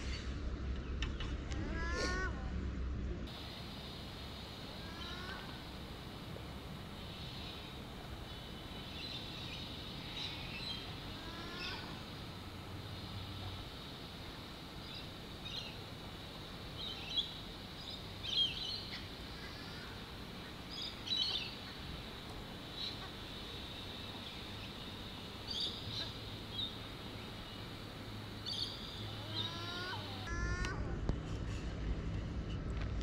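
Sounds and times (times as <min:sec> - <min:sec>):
small birds chirping: 0:03.4 - 0:30.5.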